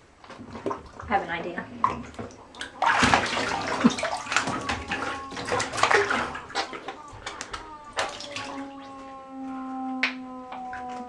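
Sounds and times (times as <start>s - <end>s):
bathwater splashing: 0.0s - 11.0s.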